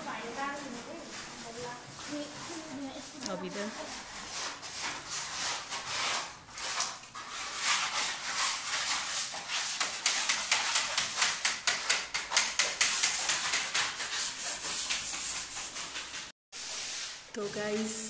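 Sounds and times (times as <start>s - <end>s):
scraper rasping on plaster wall: 0.0s - 18.0s.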